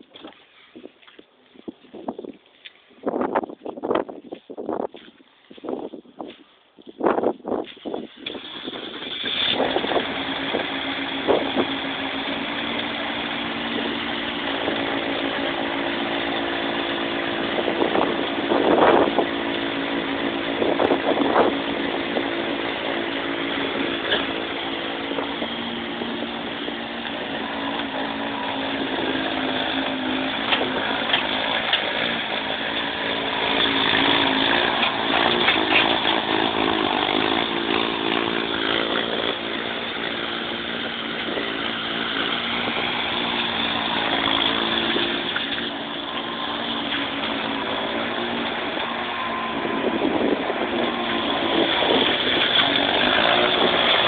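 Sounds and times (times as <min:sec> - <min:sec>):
skid-steer loader engine running: 0:07.6 - 0:54.0.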